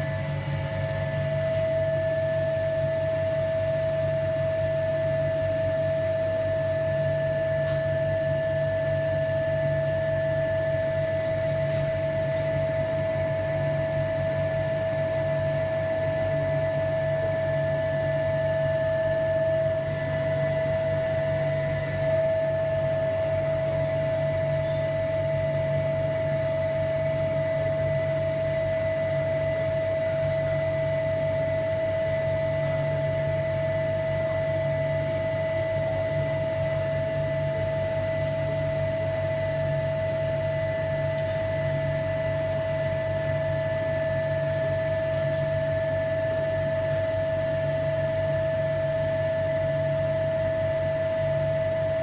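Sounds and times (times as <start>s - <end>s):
vacuum pump humming and whining: 0.0s - 52.0s.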